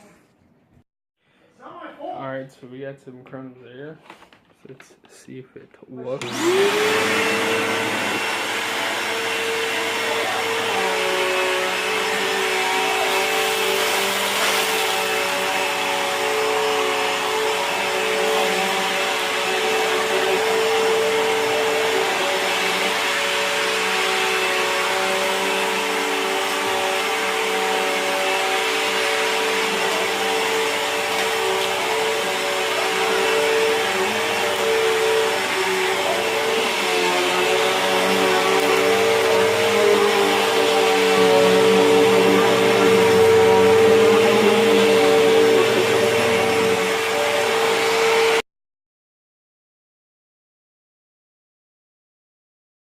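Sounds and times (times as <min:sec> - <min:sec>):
vacuum cleaner running: 0:06.1 - 0:48.4.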